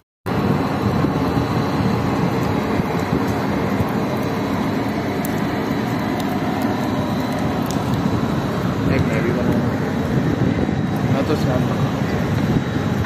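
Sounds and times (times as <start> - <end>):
steady low-pitched noise: 0.3 - 13.0.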